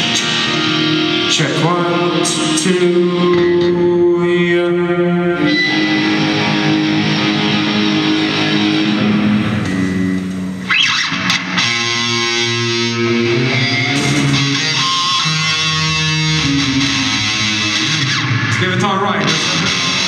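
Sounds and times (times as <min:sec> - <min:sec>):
electric guitar through amplifier: 0:00.0 - 0:20.0.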